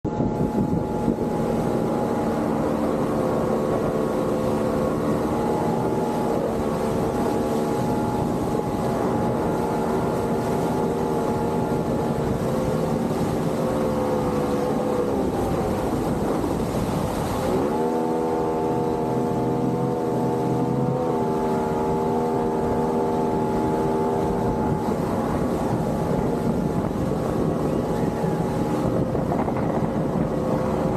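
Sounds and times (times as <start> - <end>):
boat motor running: 0.0 - 30.9
wind on microphone: 0.0 - 30.9.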